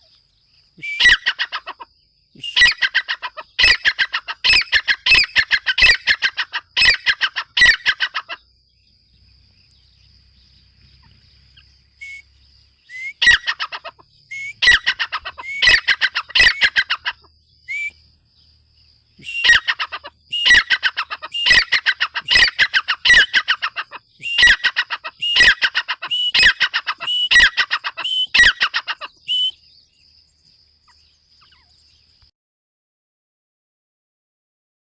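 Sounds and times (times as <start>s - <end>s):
francolin calling: 0.0s - 32.3s.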